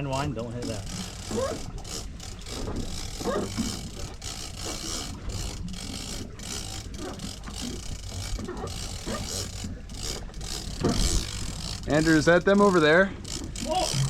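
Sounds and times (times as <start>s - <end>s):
boat engines droning: 0.0s - 14.0s
fishing reel whirring and clicking: 0.0s - 14.0s.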